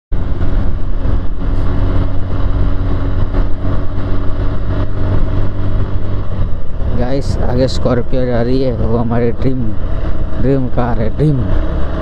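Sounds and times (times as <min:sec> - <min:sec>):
motorcycle engine droning: 0:00.1 - 0:12.0.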